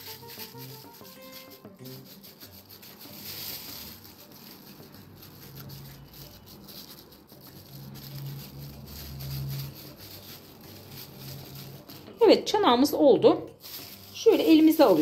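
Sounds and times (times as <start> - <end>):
plastic bag crinkling: 0.0 - 13.0, 13.6 - 15.0.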